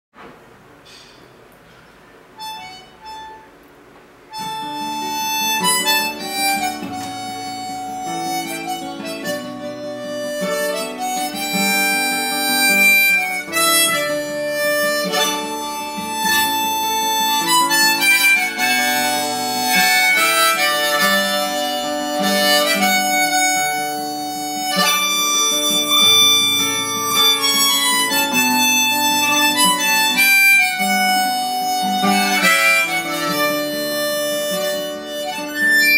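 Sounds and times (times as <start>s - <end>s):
acoustic guitar accompaniment: 0.2s - 35.9s
harmonica playing a tune: 2.4s - 3.6s, 4.3s - 35.9s.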